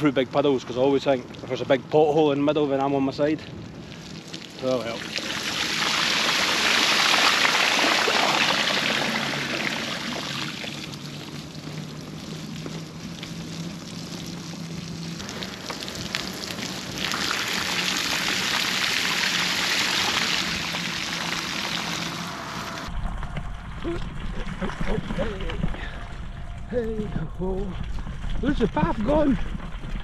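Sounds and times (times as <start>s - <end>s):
bicycle tyres splashing through puddle: 0.0s - 26.7s.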